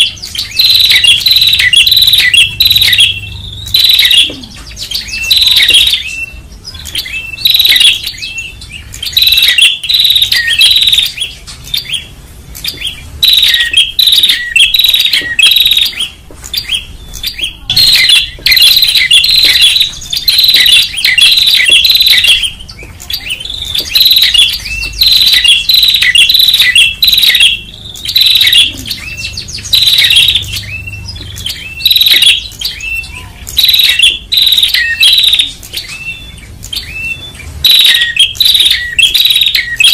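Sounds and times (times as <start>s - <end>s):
birds chirping loudly: 0.0s - 39.9s.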